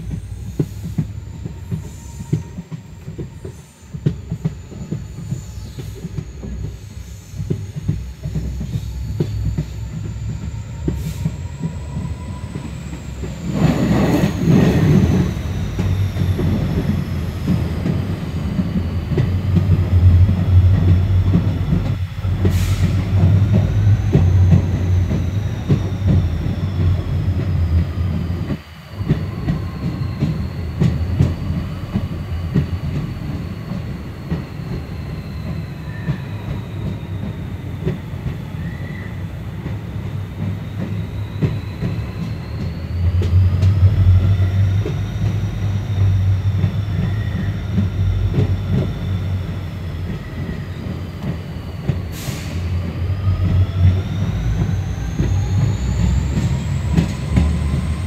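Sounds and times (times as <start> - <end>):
high wheel squeal: 0.0 - 58.0
train rumbling over track: 0.0 - 58.0.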